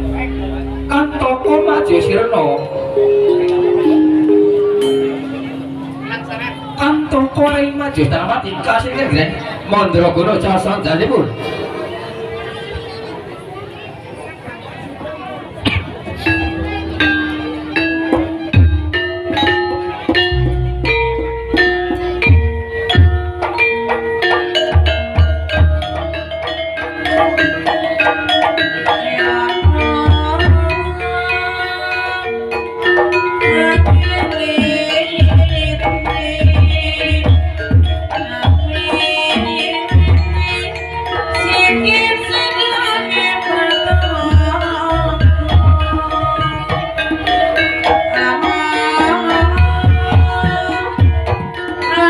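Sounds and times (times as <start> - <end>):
metallophones ringing melody: 0.0 - 14.4, 16.0 - 52.0
sustained pitched gamelan tones: 0.0 - 14.4, 15.6 - 52.0.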